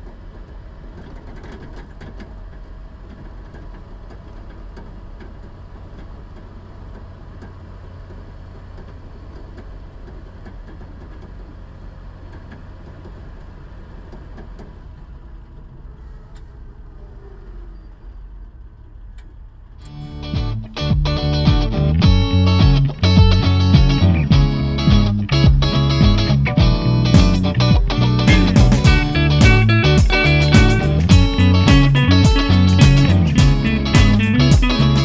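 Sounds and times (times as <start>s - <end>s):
road noise: 0.0s - 35.0s
vehicle engine drone: 0.0s - 35.0s.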